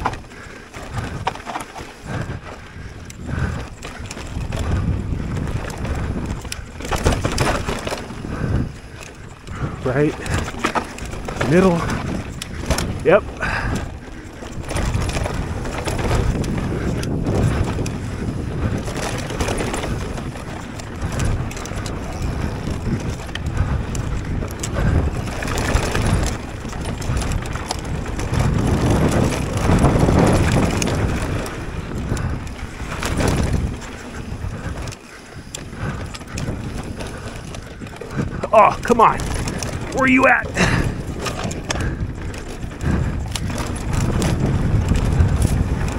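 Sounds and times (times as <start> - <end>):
bike knocking and rattling: 0.0 - 45.9
bike tyres crunching over dirt: 0.0 - 45.9
wind buffeting microphone: 0.0 - 45.9.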